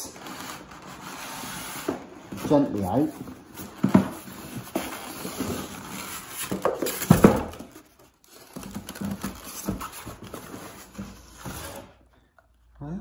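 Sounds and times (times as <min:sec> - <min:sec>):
cardboard box rustling and scraping: 0:00.2 - 0:12.0.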